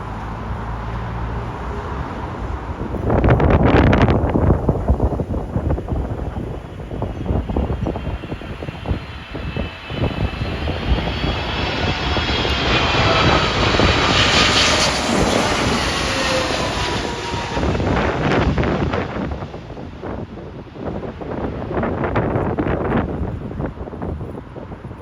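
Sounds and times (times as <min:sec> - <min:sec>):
jet airliner engine whine: 0:00.0 - 0:25.0
wind buffeting microphone: 0:01.2 - 0:25.0.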